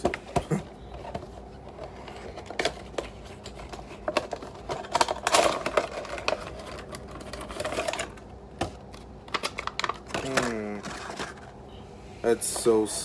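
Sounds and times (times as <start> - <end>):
packaging rustling and scraping: 0.0 - 12.9.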